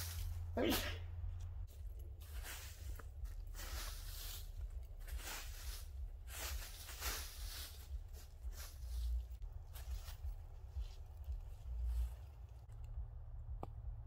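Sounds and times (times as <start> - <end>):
footsteps crunching dry leaves: 0.0 - 12.7.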